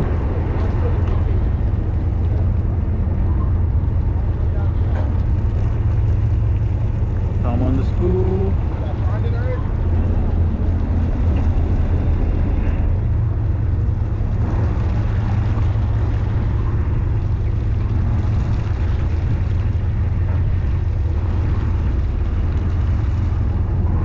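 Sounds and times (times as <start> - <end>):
boat engine droning: 0.0 - 24.0
water noise: 0.0 - 24.0
wind rumble: 0.0 - 24.0.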